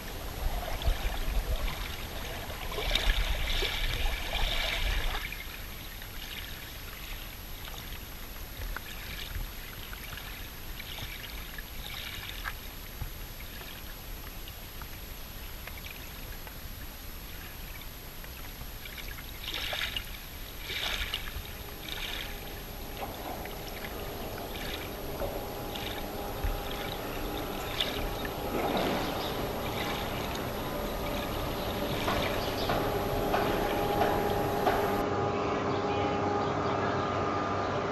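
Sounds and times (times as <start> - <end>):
water lapping and trickling: 0.0 - 35.0
water splashes: 0.0 - 35.0
faint multi-tone hum: 0.0 - 37.9.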